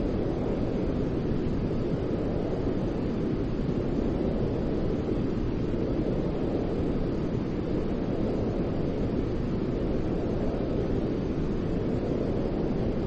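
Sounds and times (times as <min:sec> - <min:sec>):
deep low white noise: 0:00.0 - 0:13.0.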